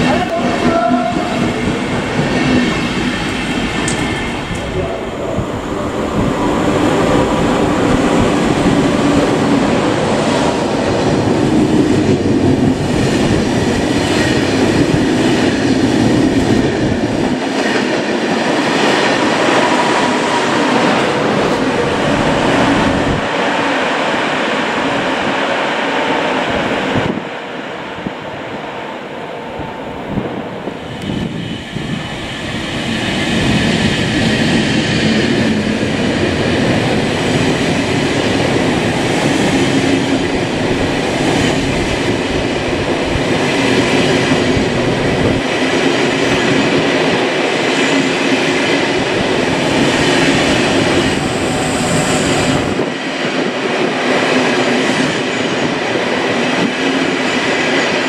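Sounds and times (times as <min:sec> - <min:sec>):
electric locomotive hauling coaches: 0:00.0 - 0:58.0
train wheels rushing on rail: 0:00.0 - 0:58.0.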